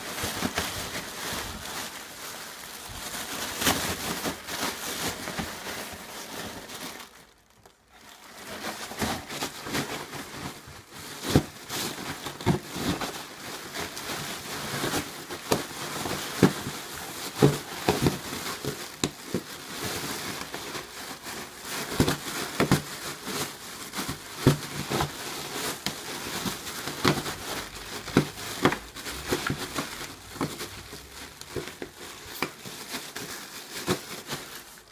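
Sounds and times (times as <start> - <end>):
bubble wrap crinkling and snapping: 0.0 - 34.9.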